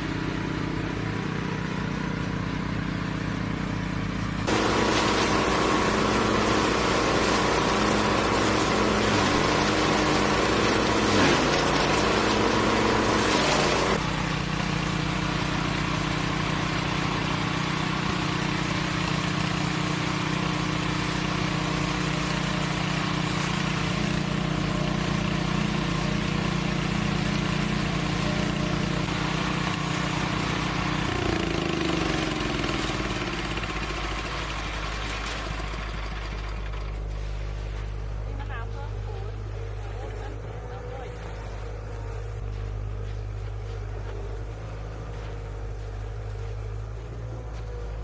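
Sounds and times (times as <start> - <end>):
machine engine running: 0.0 - 48.0.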